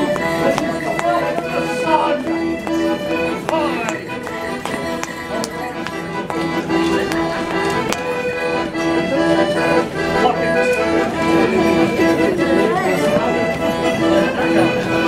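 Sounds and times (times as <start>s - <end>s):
accordion playing a dance tune: 0.0s - 15.0s.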